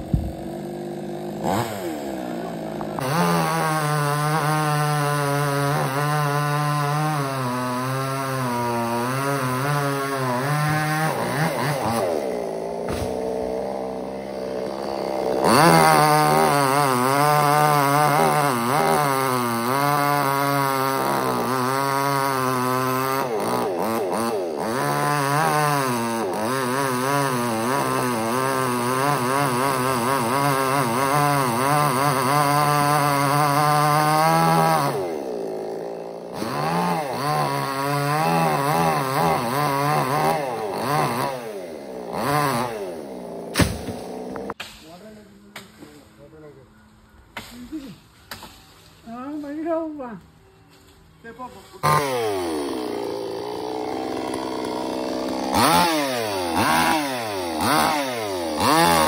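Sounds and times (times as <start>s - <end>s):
chainsaw cutting wood: 0.0s - 45.0s, 51.8s - 59.0s.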